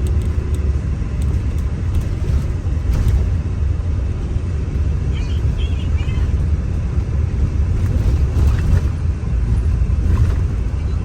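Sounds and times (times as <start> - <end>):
bus low rumble: 0.0 - 11.0.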